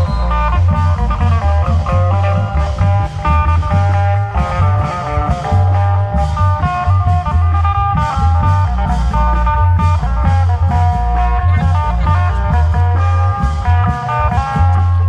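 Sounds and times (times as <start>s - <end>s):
heavy drum and bass beat: 0.0s - 15.0s
plucked string melody: 0.0s - 15.0s.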